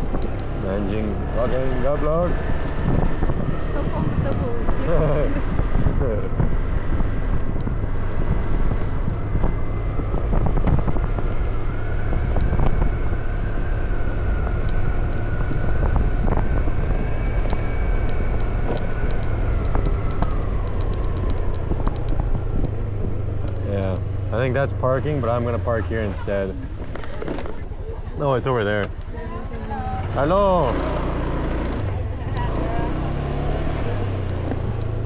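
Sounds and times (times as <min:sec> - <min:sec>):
motorbike engine running: 0:00.0 - 0:35.0
wind buffeting microphone: 0:00.0 - 0:35.0.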